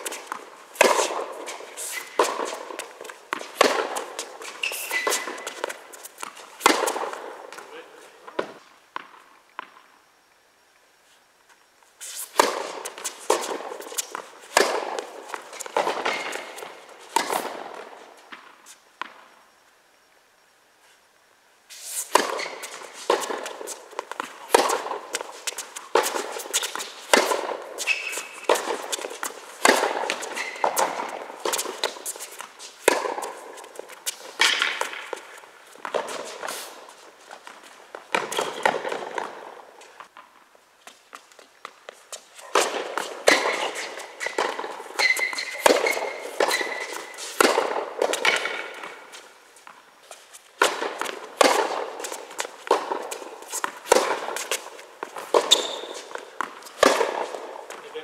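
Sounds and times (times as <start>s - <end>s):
players' footsteps: 0.0s - 9.8s, 11.5s - 19.2s, 21.9s - 58.0s
tennis balls struck by rackets: 0.0s - 9.9s, 12.2s - 19.2s, 22.0s - 40.4s, 41.1s - 58.0s.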